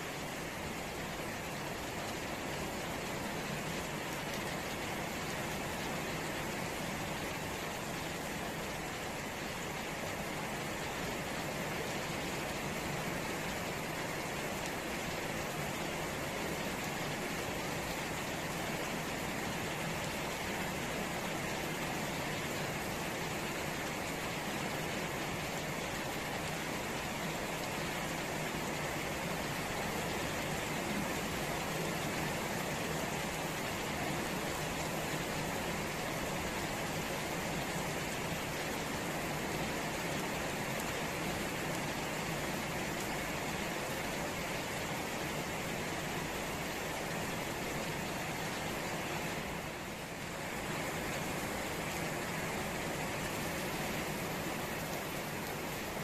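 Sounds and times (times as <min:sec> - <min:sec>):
rain splashing on puddles: 0:00.0 - 0:56.0.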